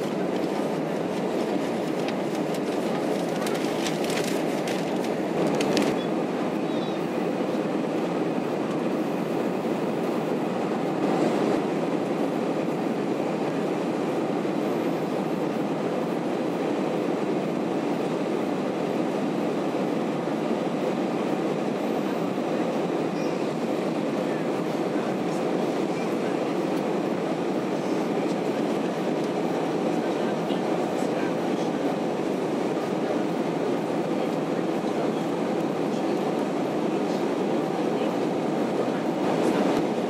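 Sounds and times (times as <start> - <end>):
jet engine rumble: 0.0 - 40.0.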